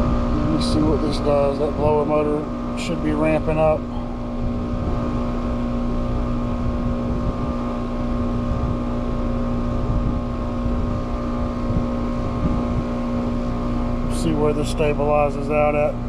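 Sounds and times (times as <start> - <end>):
heat pump compressor and fan hum: 0.0 - 16.0.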